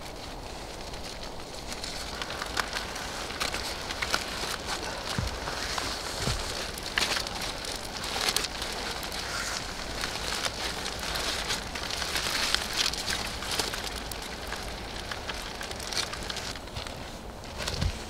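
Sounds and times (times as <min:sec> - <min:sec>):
aluminium foil crinkling: 0:00.0 - 0:18.0
steady crackling hiss: 0:00.0 - 0:18.0.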